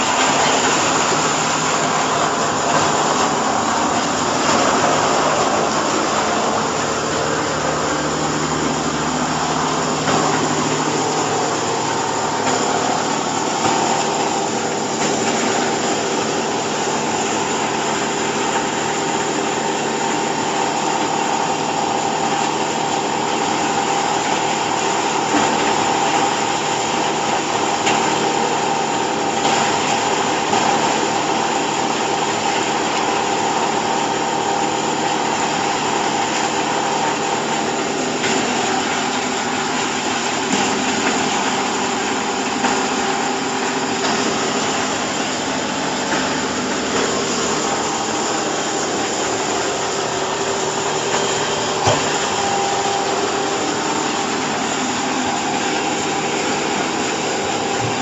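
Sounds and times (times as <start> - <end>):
baler machine hum: 0.0 - 58.0.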